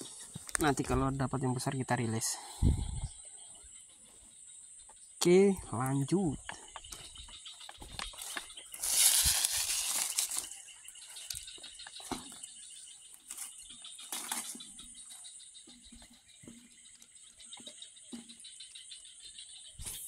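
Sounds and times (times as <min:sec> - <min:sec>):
faint insect drone: 0:00.0 - 0:20.0.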